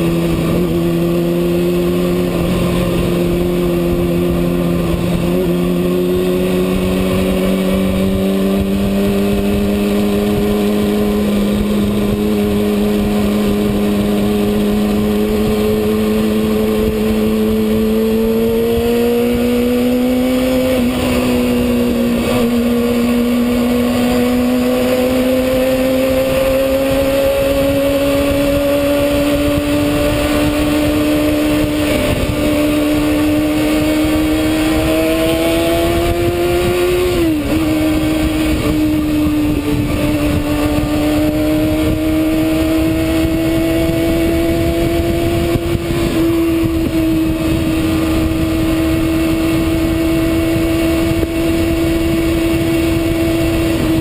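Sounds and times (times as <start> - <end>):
motorcycle engine at high revs: 0.0 - 54.0
steady rushing noise: 0.0 - 54.0.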